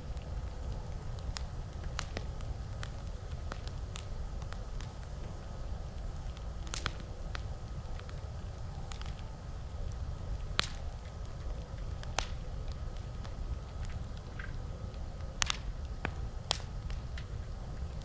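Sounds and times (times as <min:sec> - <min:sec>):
campfire crackling: 0:00.0 - 0:18.0
steady low rumble: 0:00.0 - 0:18.0.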